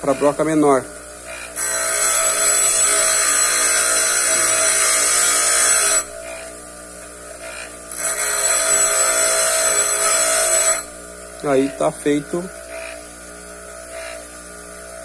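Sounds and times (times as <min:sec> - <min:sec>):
drill bit grinding on stone wheel: 0:00.0 - 0:15.0
grinder motor hum: 0:00.0 - 0:15.0.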